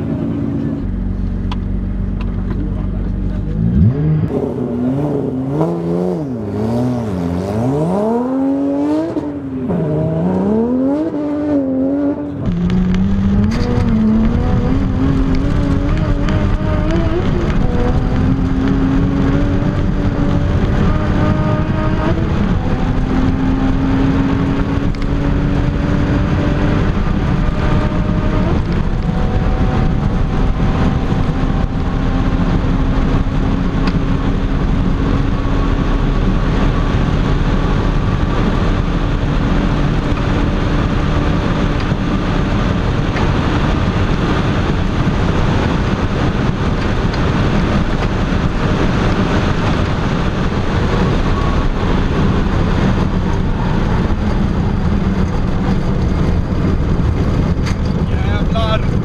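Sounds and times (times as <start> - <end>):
sports car engine revving: 0.0 - 59.0
wind rushing: 3.8 - 59.0.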